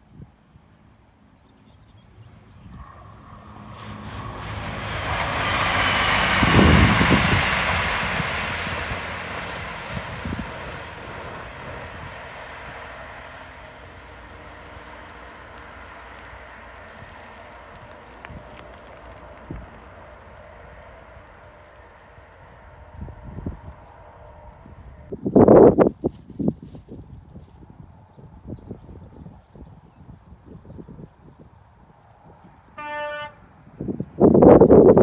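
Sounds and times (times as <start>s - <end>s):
diesel train passing at speed: 2.0s - 25.9s, 27.6s - 35.0s.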